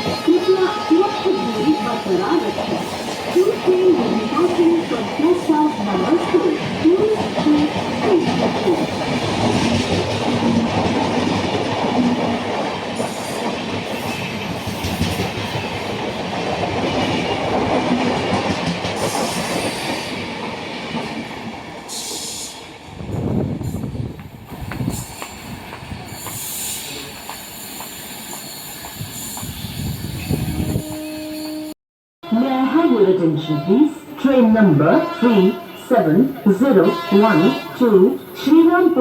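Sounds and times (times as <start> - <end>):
train passing at speed: 0.0 - 31.8.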